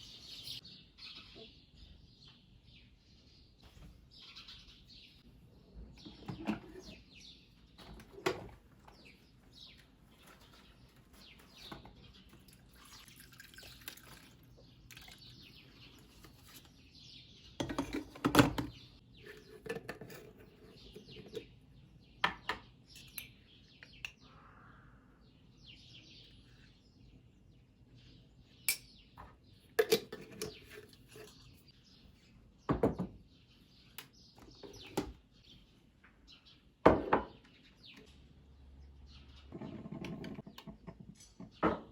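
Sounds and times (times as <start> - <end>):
faint bird chirping: 0.0 - 41.9.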